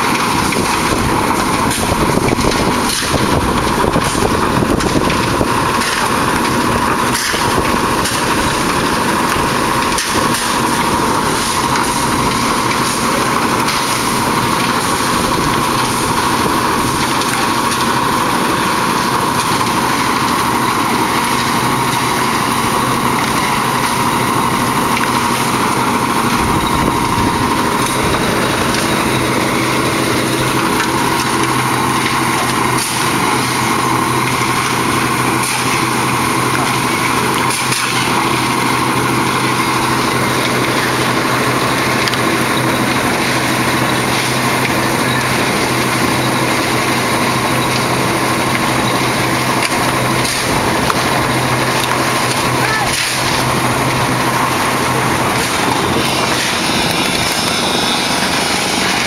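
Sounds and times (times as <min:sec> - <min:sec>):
concrete mixer engine droning: 0:00.0 - 0:59.0.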